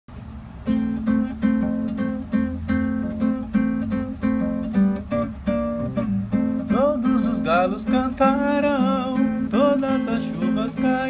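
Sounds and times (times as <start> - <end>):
acoustic guitar strumming chords: 0.6 - 11.0.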